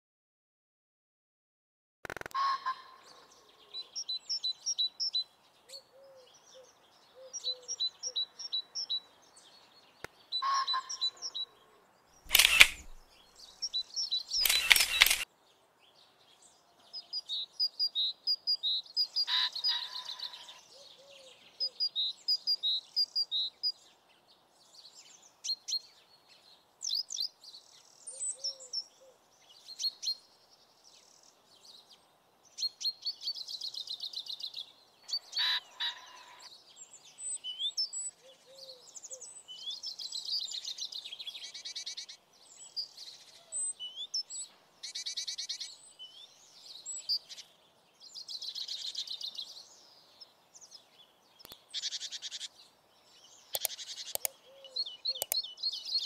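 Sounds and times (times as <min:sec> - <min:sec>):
birds chirping and singing: 0:02.4 - 0:15.2, 0:15.9 - 0:23.9, 0:24.6 - 0:32.0, 0:32.6 - 0:56.0.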